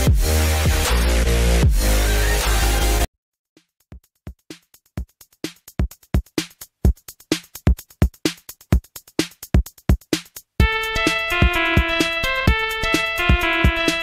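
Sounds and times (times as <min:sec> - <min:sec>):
drum machine beat: 0:00.0 - 0:03.0, 0:03.6 - 0:14.0.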